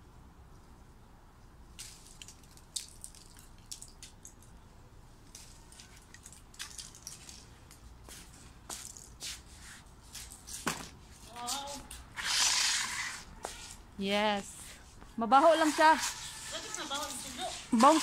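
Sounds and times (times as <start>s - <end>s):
leaves and twigs rustling: 1.7s - 4.6s, 5.2s - 18.0s.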